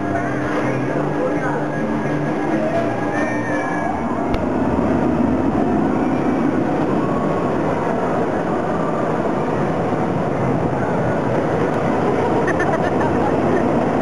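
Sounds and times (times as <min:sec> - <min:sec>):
roller coaster rumbling on wooden track: 0:00.0 - 0:14.0.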